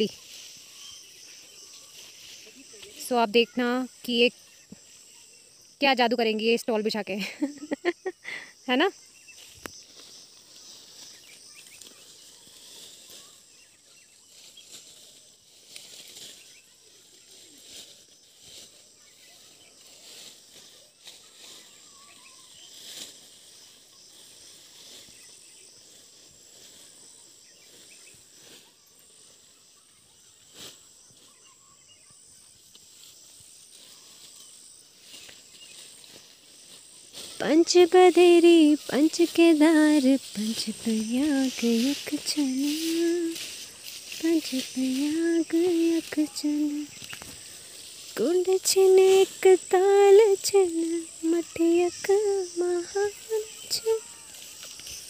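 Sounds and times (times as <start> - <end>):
insects chirring: 0.0 - 55.0
leafy branches rustling: 0.0 - 55.0.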